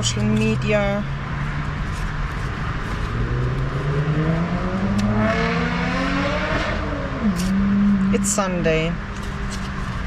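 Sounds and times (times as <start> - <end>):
motorway traffic tyre rush: 0.0 - 10.0
vehicle engine accelerating: 0.0 - 10.0.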